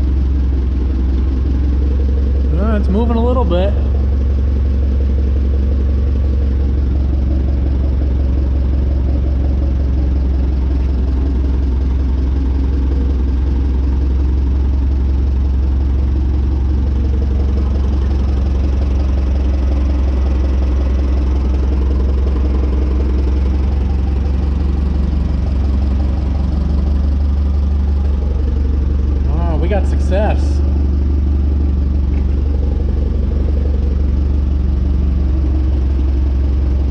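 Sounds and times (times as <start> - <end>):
forklift engine humming: 0.0 - 36.9.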